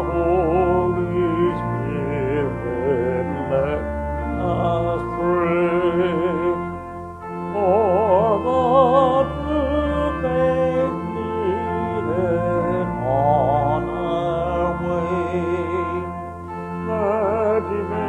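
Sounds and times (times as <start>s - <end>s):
pipe organ chords: 0.0s - 18.0s
voices singing a hymn: 0.0s - 18.0s.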